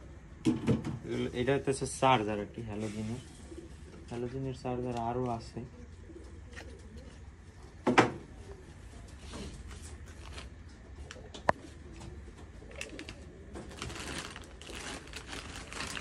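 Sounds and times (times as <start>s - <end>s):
pigeons cooing: 2.5s - 16.0s.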